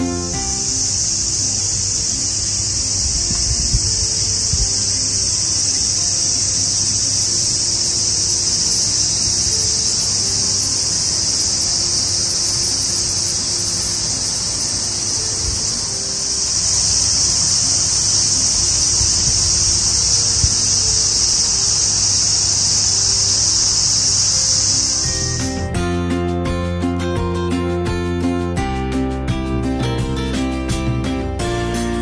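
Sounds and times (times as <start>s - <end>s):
insects chorus: 0.0s - 25.8s.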